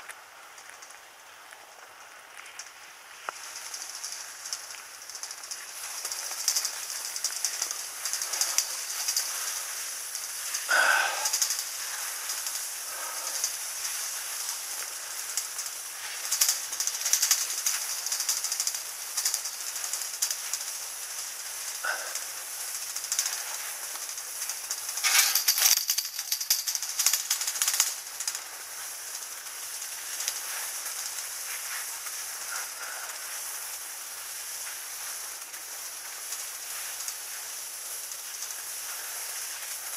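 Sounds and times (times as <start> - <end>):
skis scraping packed snow: 0.0 - 39.9.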